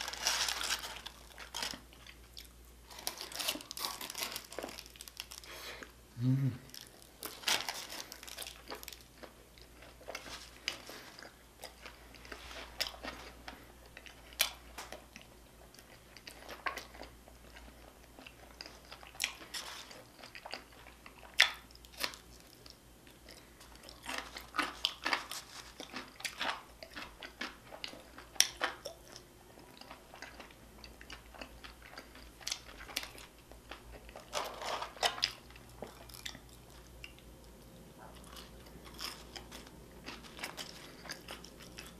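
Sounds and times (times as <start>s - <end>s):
person chewing crunchy food: 0.0s - 6.0s, 6.6s - 41.9s.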